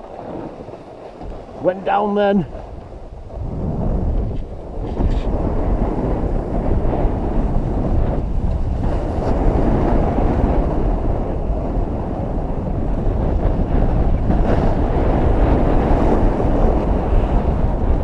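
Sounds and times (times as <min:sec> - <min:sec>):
skis sliding on snow: 0:00.0 - 0:17.6
wind buffeting microphone: 0:00.0 - 0:18.0.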